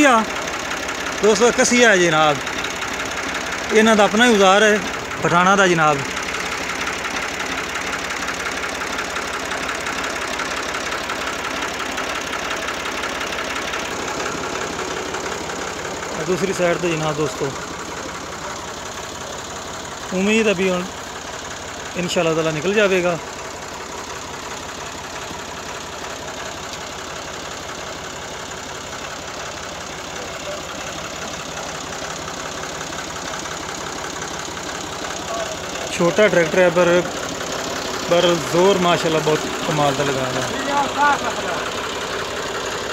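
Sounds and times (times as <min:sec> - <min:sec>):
tractor diesel engine idling: 0:00.0 - 0:42.9.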